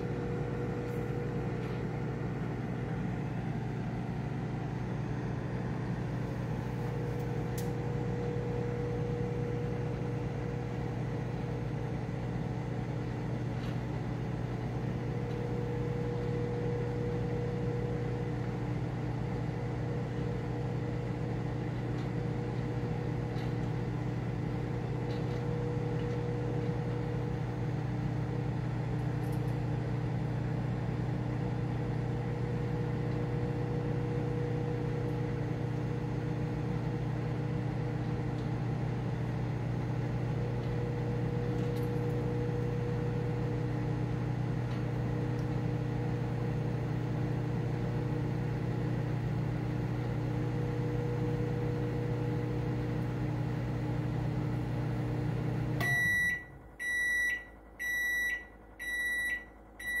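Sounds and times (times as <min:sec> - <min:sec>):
microwave oven humming: 0:00.0 - 1:00.0.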